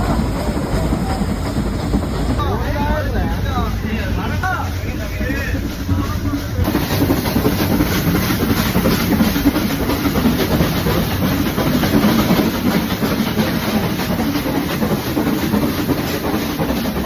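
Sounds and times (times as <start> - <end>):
train wheels rattling on track: 0.0 - 17.0.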